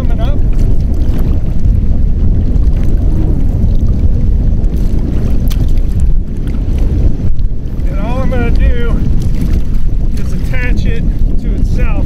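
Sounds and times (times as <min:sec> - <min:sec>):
water lapping and splashing: 0:00.0 - 0:12.0
wind rumbling on microphone: 0:00.0 - 0:12.0.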